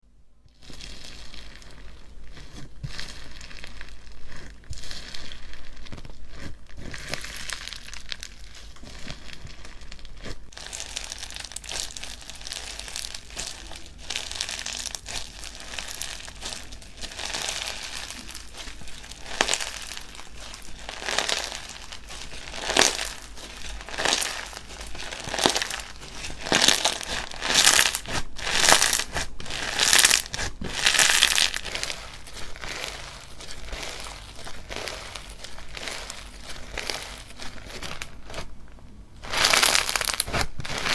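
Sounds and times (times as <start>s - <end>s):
hands squeezing crackling slime: 0.5s - 38.6s, 39.2s - 40.9s.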